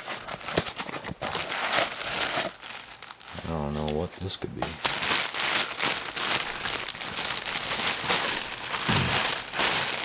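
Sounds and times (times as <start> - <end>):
plastic packing crinkling: 0.0 - 10.0.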